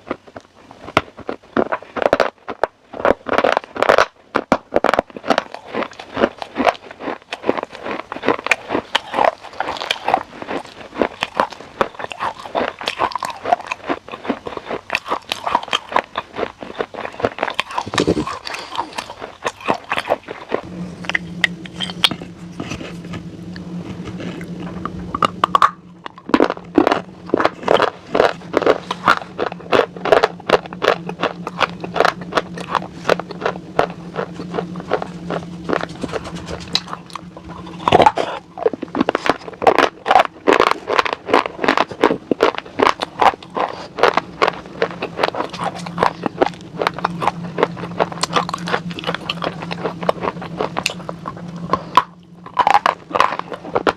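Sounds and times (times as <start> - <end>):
crunchy chewing: 0.0 - 53.9
low hum: 0.0 - 53.9.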